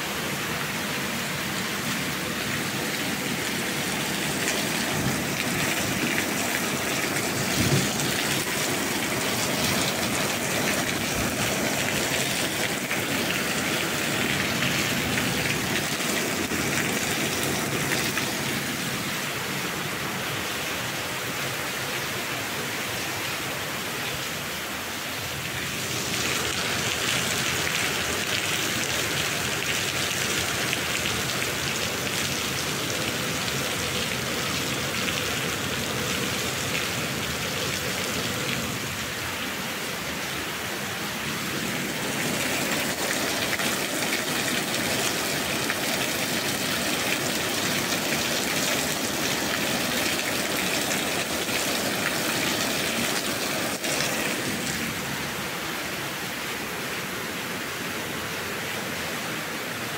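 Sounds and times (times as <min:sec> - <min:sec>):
steady rain-like hiss: 0:00.0 - 0:59.9.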